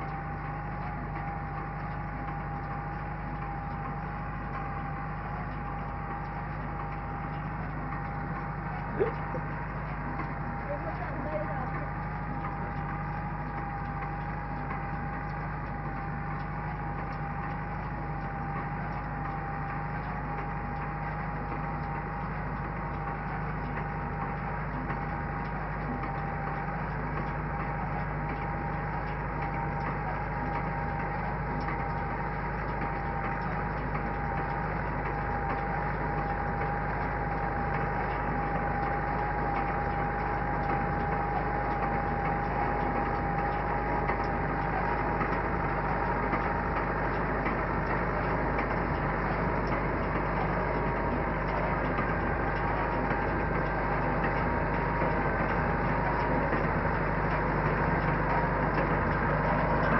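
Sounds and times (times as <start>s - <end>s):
steady whine: 0.0s - 59.9s
tractor engine running: 0.0s - 59.9s.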